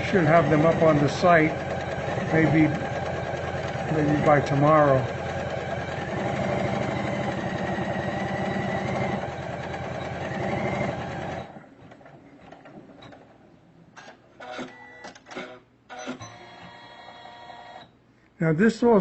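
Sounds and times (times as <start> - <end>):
embroidery machine stitching: 0.0 - 13.3, 14.0 - 17.8.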